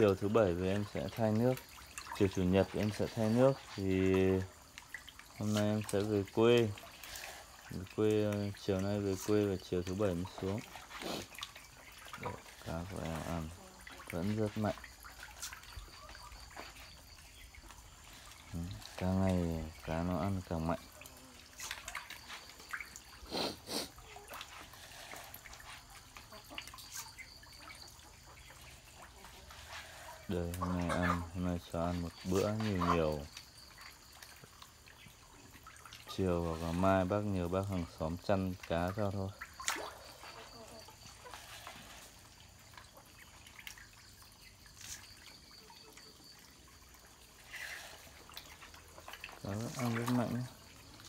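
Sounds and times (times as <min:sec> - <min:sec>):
water pops drips and slurps: 0:00.0 - 0:51.0
water splashes: 0:00.0 - 0:51.0.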